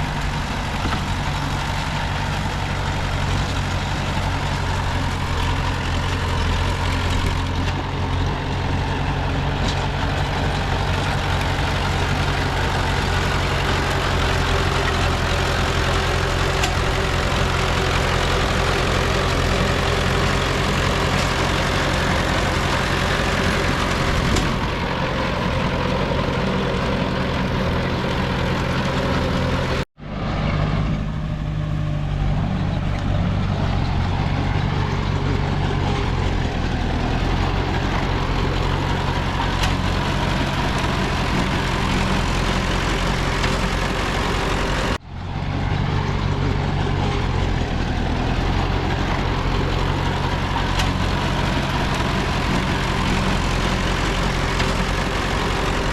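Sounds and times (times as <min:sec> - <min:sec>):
diesel engine humming: 0:00.0 - 0:55.9.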